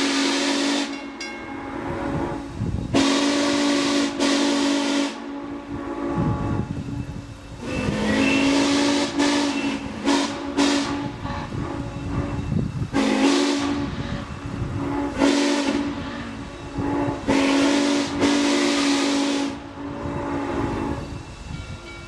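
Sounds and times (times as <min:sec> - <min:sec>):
steam whistle blasts: 0:00.0 - 0:21.4
steam hissing: 0:00.0 - 0:22.0.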